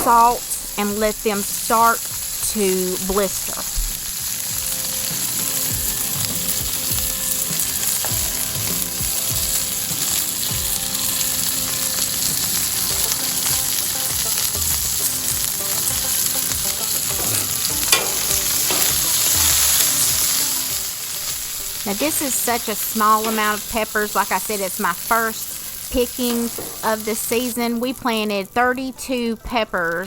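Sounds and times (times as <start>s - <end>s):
peppers sizzling in oil: 0.0s - 30.0s.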